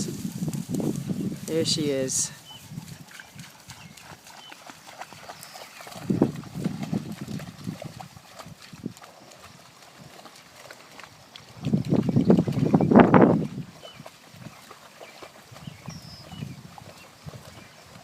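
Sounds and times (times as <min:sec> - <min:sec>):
dog splashing and paddling in water: 0:02.0 - 0:18.0.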